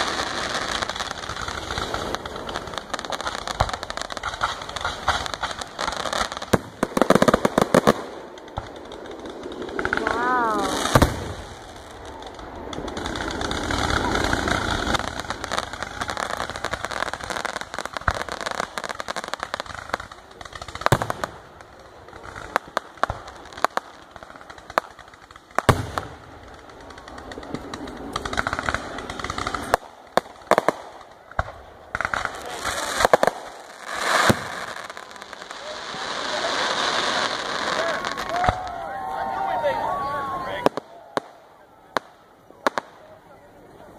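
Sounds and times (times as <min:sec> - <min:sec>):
fireworks popping and banging: 0:00.0 - 0:43.9
fireworks sizzling: 0:00.0 - 0:43.9.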